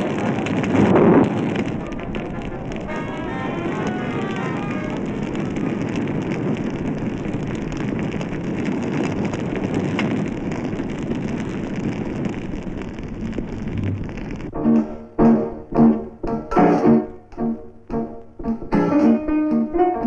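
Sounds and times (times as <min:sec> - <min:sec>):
fire rushing noise: 0:00.0 - 0:17.2
fire crackles: 0:00.0 - 0:20.0.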